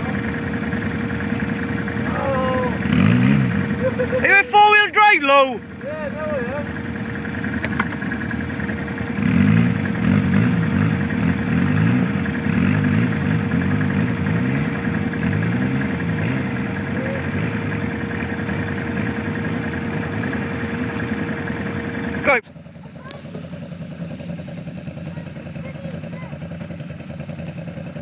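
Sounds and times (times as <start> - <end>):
atv engine revving: 0.0 - 28.0.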